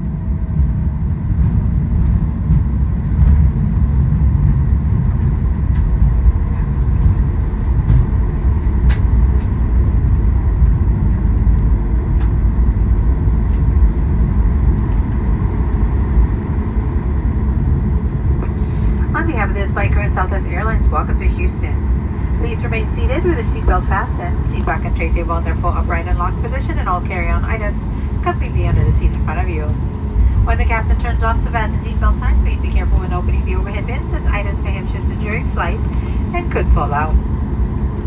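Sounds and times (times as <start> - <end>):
aircraft cabin low rumble: 0.0 - 38.0.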